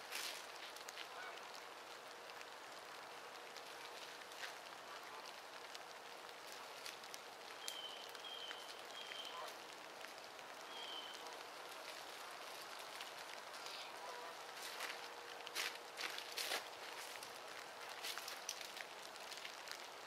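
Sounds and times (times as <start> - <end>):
light rain pattering on leaves: 0.0 - 20.0.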